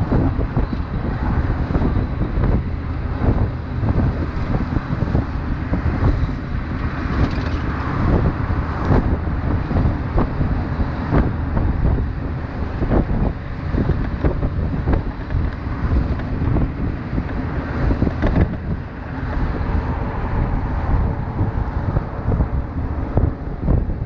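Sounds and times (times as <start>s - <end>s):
steady low rumble: 0.0s - 24.0s
wind buffeting microphone: 0.0s - 24.0s.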